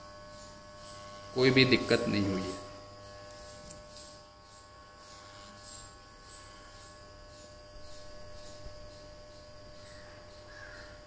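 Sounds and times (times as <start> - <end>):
hair clipper buzzing: 0.0 - 11.0
faint high chirp: 0.3 - 11.0.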